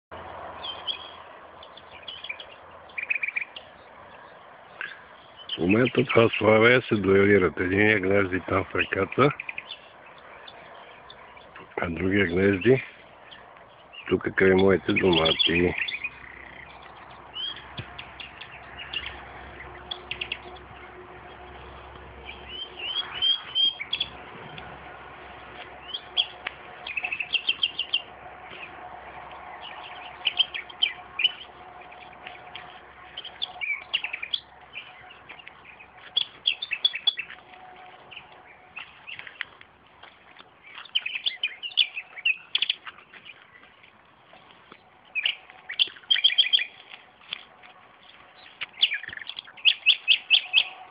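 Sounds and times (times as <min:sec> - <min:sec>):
nightingales singing: 0:00.5 - 0:21.6, 0:22.2 - 0:24.6, 0:25.8 - 0:39.5, 0:40.5 - 0:43.8, 0:44.7 - 0:47.0, 0:48.0 - 0:50.9.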